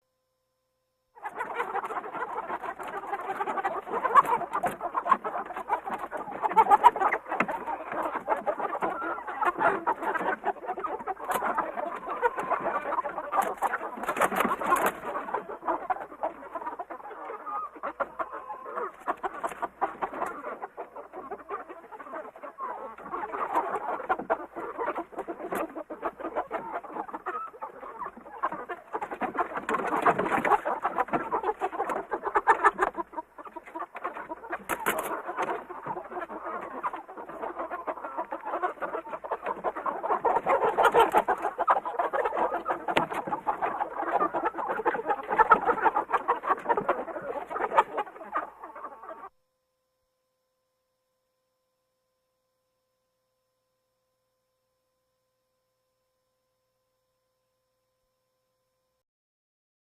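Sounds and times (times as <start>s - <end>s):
flock of birds chattering: 1.2s - 49.3s.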